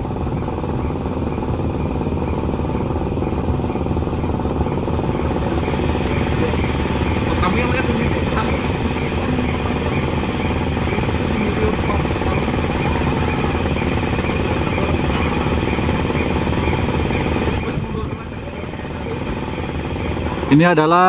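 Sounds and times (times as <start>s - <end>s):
machinery mechanical drone: 0.0s - 21.0s.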